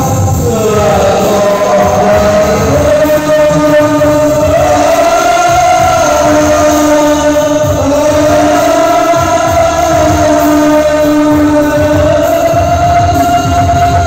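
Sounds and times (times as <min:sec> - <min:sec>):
loud backing track: 0:00.0 - 0:14.0
men singing karaoke: 0:00.0 - 0:14.0.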